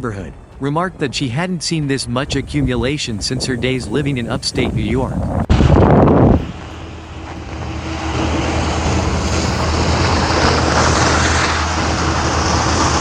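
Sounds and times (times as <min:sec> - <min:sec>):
low engine hum: 0:00.0 - 0:13.0
road noise hiss: 0:00.0 - 0:13.0.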